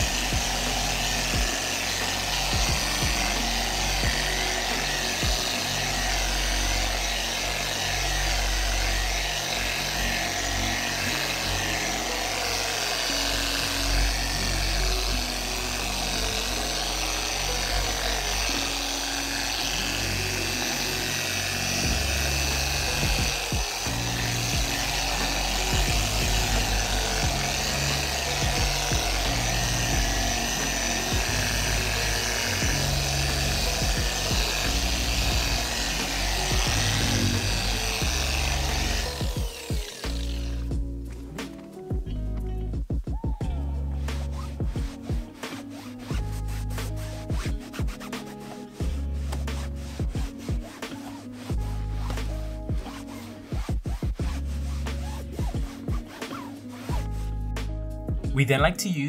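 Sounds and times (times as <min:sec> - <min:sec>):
polisher running against fabric: 0:00.0 - 0:41.1, 0:44.0 - 0:58.2
background music: 0:00.0 - 0:59.0.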